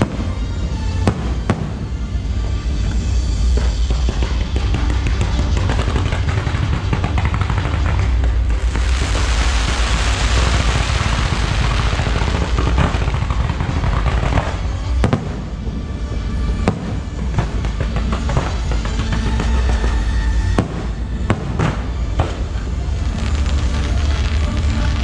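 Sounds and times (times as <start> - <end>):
fireworks sharp bangs: 0.0 - 2.1, 3.5 - 15.7, 16.6 - 25.0
fireworks crackling: 0.0 - 15.8, 16.4 - 25.0
music with steady bass: 0.0 - 25.0.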